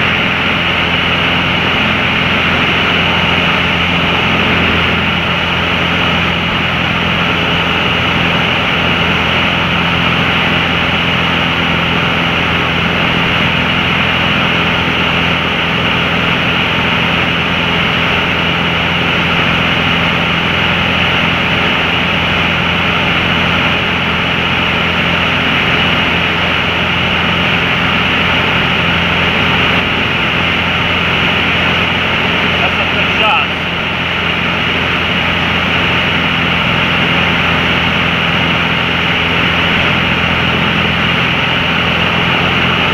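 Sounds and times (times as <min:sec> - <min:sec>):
propeller airplane cabin drone: 0:00.0 - 0:42.9.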